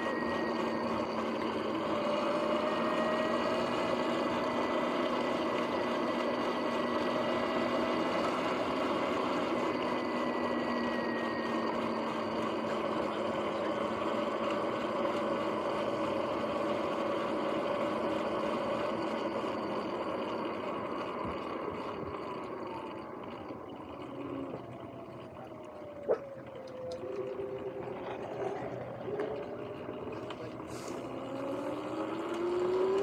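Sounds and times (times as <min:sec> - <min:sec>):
electric motorbike whine: 0:00.0 - 0:33.0.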